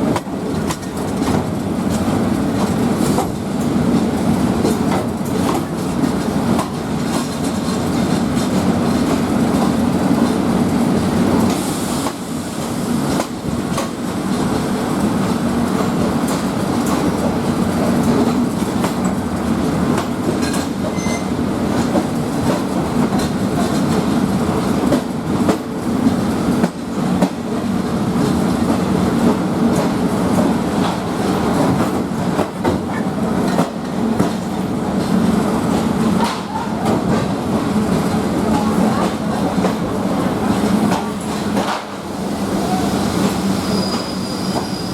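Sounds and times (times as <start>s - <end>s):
train rumbling on rails: 0.0s - 44.9s.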